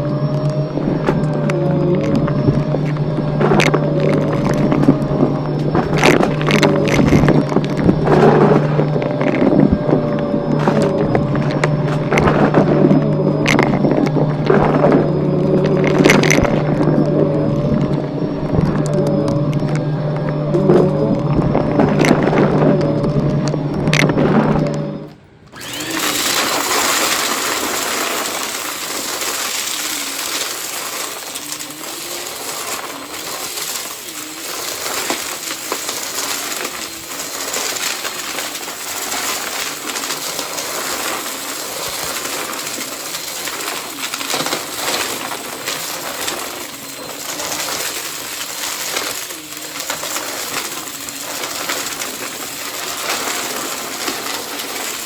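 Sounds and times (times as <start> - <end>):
faint wavering tones: 0.0 - 55.0
vacuum cleaner running: 0.0 - 55.0.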